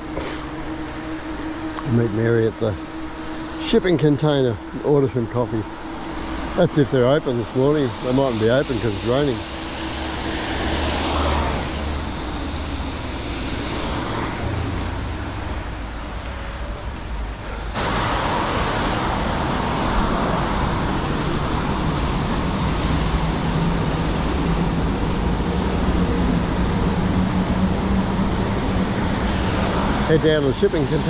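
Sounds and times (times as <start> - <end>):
steady hiss: 0.0 - 25.9
vehicles passing on road: 0.0 - 31.0.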